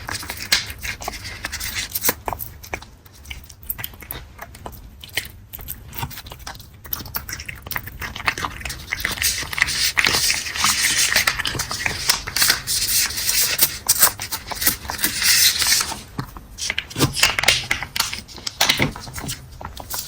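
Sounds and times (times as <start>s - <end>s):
cat licking or chewing: 0.0s - 20.0s.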